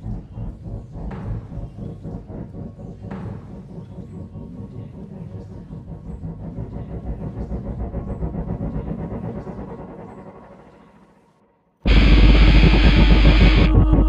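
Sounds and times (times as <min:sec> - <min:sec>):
low fluttering rumbling drone: 0:00.0 - 0:14.0.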